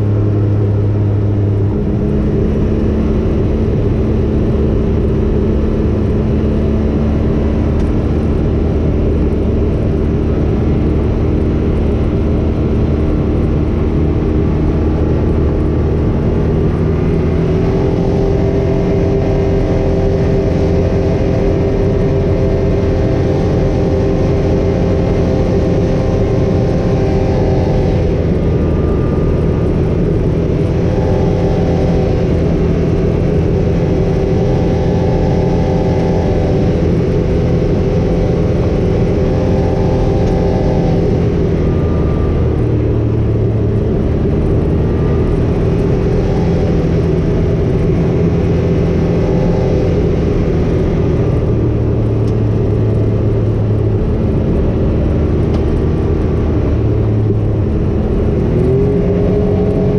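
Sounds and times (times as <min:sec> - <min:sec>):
vehicle engine and tyre hum: 0:00.0 - 0:59.9.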